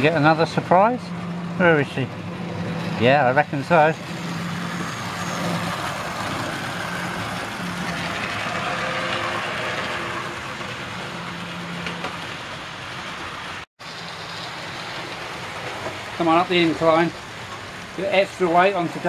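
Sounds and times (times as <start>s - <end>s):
wheels rattling on track: 0.0s - 19.0s.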